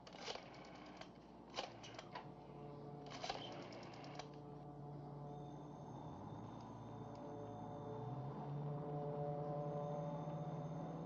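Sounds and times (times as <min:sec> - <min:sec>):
faint steady tone: 0:00.4 - 0:11.0.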